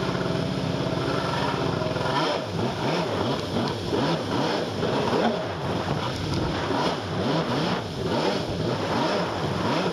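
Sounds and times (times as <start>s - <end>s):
jet ski engine revving: 0.0s - 9.9s.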